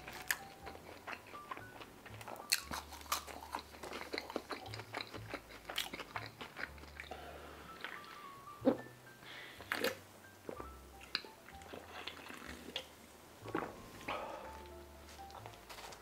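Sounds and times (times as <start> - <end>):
chewing crisp fries: 0.0 - 8.9, 9.6 - 12.9, 13.5 - 16.0
soft background music: 0.0 - 16.0.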